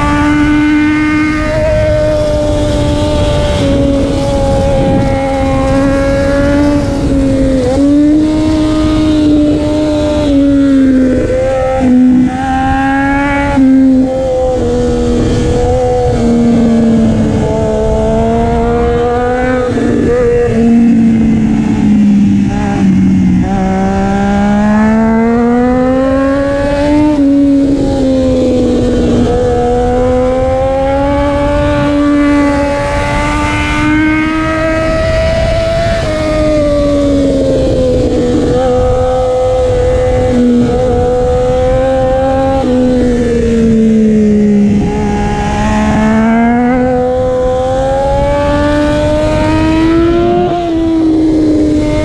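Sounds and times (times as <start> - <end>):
loud motorcycle engine running: 0.0 - 52.0.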